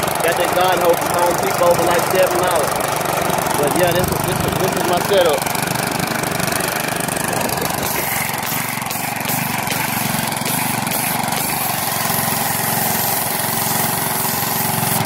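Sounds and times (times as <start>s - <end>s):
small engine running: 0.0s - 15.0s
water jet hissing on concrete: 0.0s - 15.0s.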